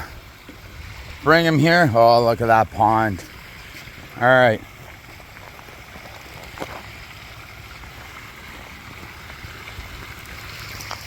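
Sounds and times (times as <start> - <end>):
pond waterfall rushing: 0.0 - 11.0.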